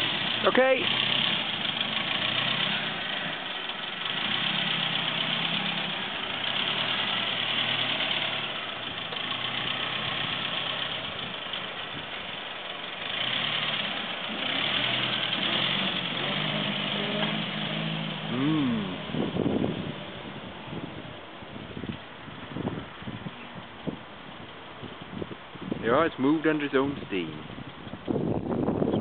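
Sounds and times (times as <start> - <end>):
car engine running: 0.0 - 28.9.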